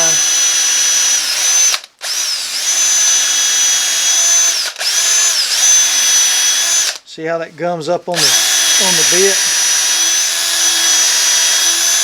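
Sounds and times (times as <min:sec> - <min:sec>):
electric drill boring into wood: 0:00.0 - 0:07.0, 0:08.2 - 0:12.0.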